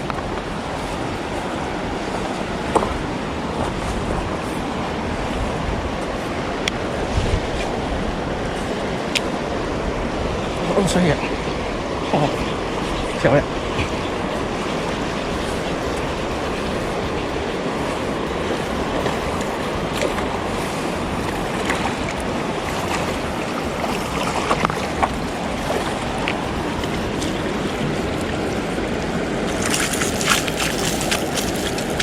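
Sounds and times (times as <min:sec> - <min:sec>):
rushing river water: 0:00.0 - 0:32.0.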